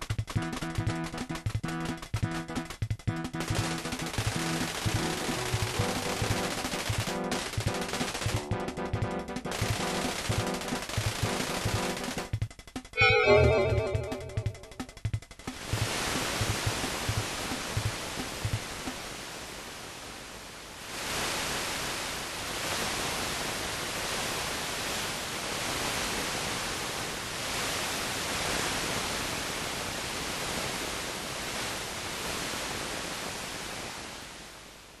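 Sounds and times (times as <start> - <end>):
synthesized surf noise: 0.0 - 12.4, 13.0 - 35.0.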